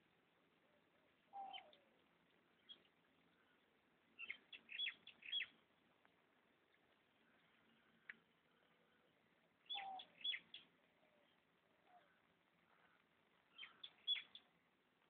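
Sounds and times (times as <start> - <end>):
faint background hiss: 0.0 - 15.0
bird chirping: 1.2 - 14.6.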